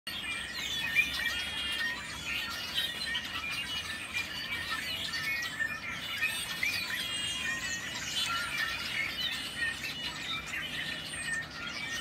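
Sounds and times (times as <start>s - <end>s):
birds chirping and whistling: 0.1s - 12.0s.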